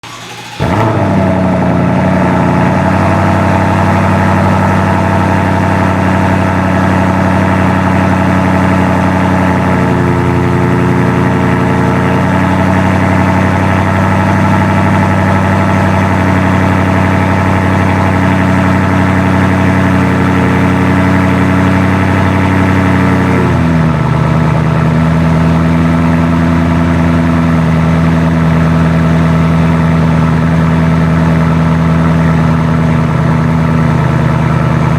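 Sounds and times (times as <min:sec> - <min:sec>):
car engine starting and idling: 0:00.0 - 0:34.9.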